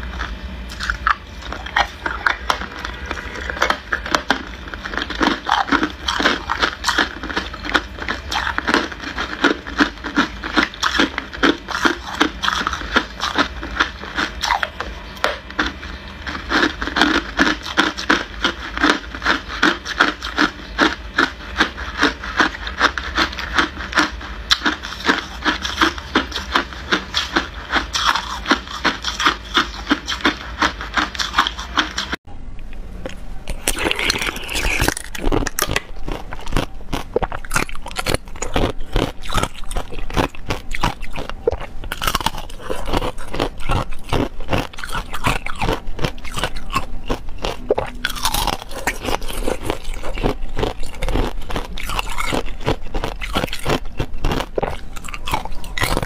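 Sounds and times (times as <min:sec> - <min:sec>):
ice being chewed: 0:00.0 - 0:32.2, 0:33.0 - 0:56.0.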